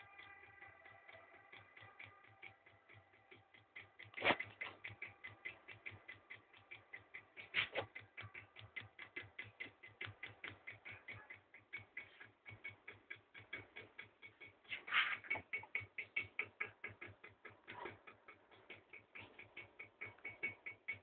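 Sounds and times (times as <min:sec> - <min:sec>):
motor clicking rapidly: 0:00.0 - 0:21.0.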